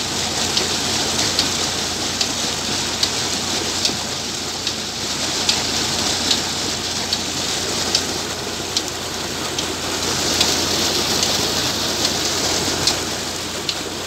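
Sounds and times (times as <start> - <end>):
tractor engine humming: 0.0 - 14.0
water gushing into tank: 0.0 - 14.0.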